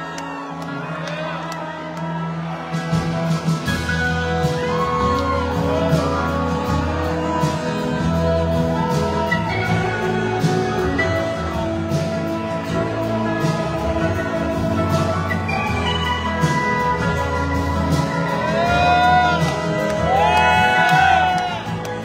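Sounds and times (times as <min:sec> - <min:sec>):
bass: 0:00.0 - 0:22.0.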